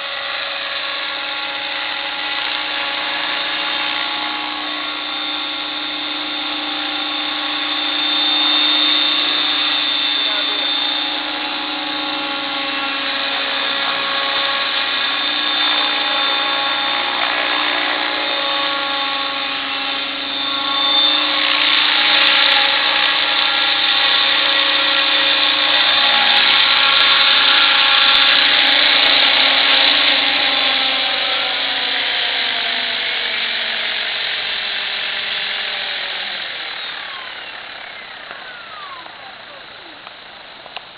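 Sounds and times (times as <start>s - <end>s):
rc helicopter motor whining: 0.0s - 40.9s
rotors swishing: 0.0s - 40.9s.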